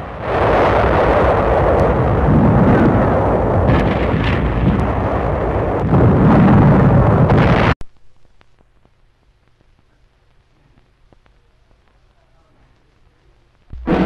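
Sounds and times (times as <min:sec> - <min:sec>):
rumble of explosions: 0:00.0 - 0:14.0.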